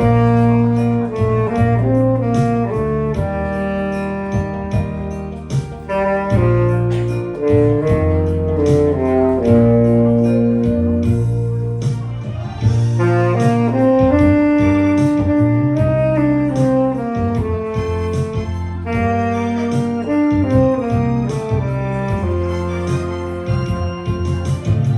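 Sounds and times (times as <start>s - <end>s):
bass line: 0.0s - 24.9s
steady drum beat: 0.0s - 24.9s
tenor saxophone melody: 0.0s - 24.9s.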